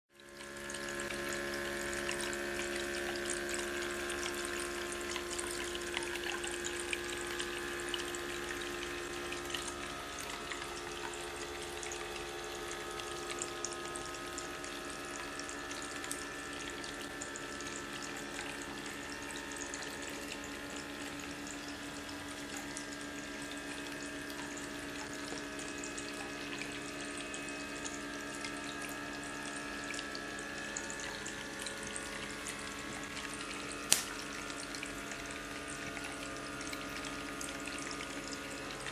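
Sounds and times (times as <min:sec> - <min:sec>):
steady hum: 0:00.2 - 0:38.9
water trickling and splashing: 0:00.2 - 0:38.9.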